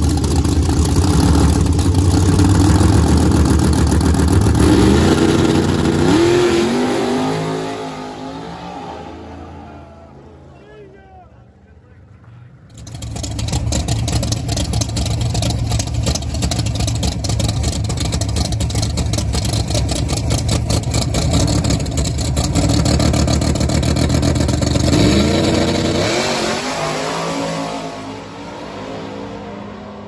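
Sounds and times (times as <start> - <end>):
car engine idling and revving: 0.0 - 10.6, 11.7 - 30.0.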